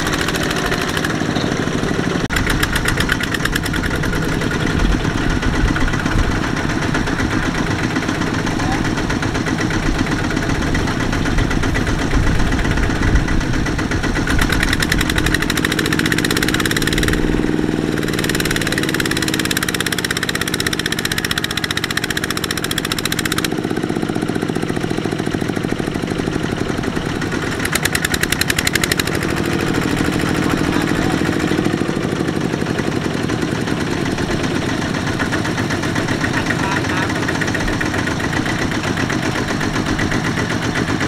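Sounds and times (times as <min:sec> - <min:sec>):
diesel tractor engine labouring: 0:00.0 - 0:41.0.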